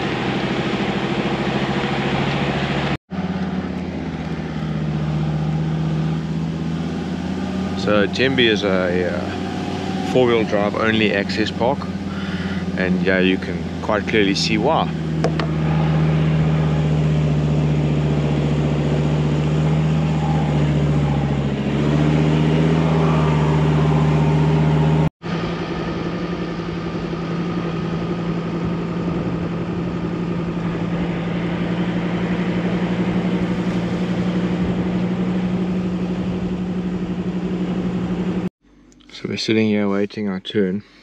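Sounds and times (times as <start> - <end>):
vehicle engine running: 0.0 - 40.1.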